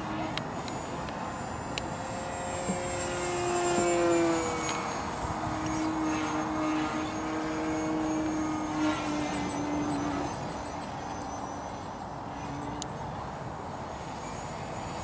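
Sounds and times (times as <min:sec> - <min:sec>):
model plane motor humming: 0:00.0 - 0:15.0.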